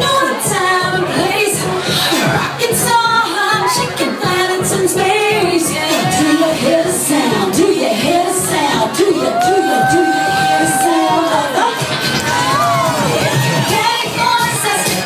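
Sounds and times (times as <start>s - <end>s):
woman singing pop into microphone: 0.0s - 11.9s, 13.3s - 15.0s
dance music with steady beat: 0.0s - 15.0s.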